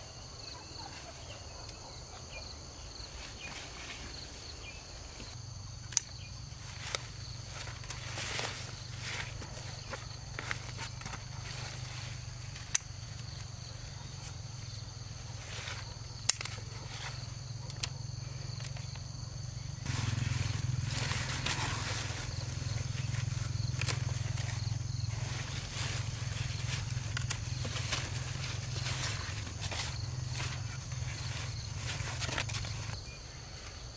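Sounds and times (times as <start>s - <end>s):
rustling and movement: 2.8s - 33.0s.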